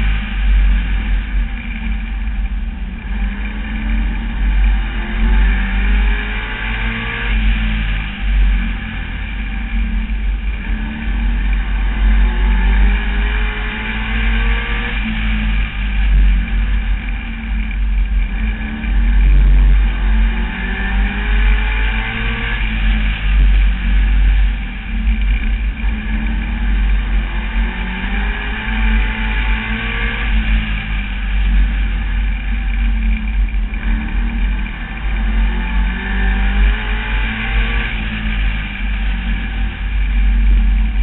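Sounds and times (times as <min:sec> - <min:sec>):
race car engine: 0:00.0 - 0:41.0.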